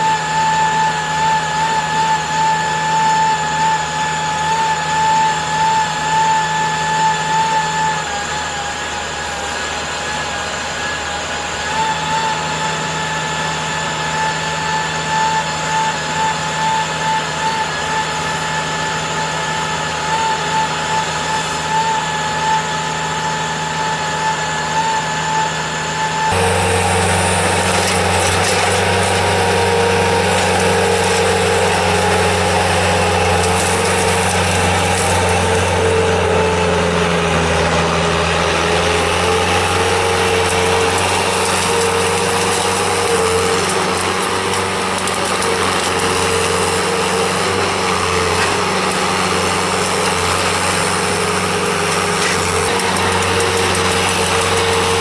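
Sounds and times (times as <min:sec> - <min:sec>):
engine running steadily: 0:11.0 - 0:55.0.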